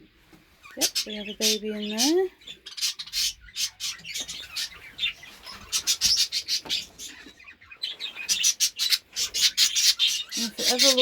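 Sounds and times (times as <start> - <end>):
budgerigars chirping: 0.6 - 11.0.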